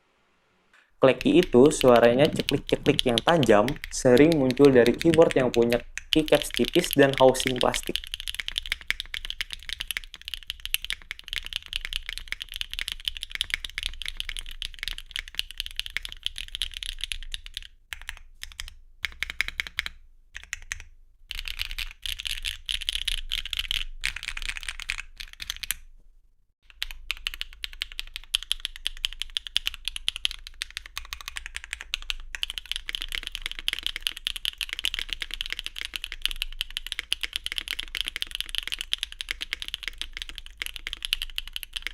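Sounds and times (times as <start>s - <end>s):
fast typing on mechanical keyboard: 1.0s - 25.8s, 26.7s - 41.9s.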